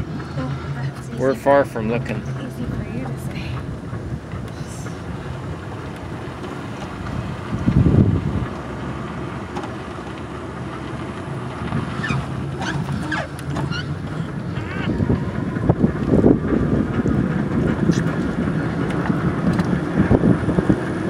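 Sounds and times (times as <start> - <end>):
car rolling low rumble: 0.0 - 21.0
wind buffeting microphone: 0.0 - 21.0.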